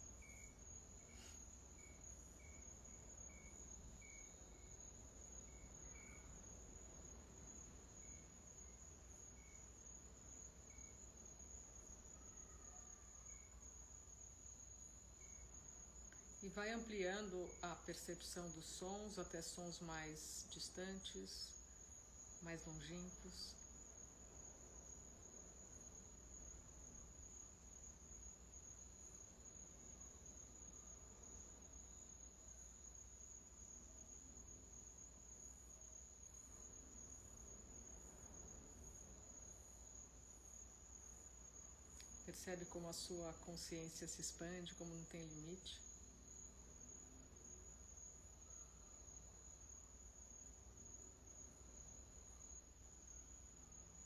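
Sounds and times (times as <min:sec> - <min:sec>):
insect chirping: 0:00.0 - 0:54.0
low background hiss: 0:00.0 - 0:54.0.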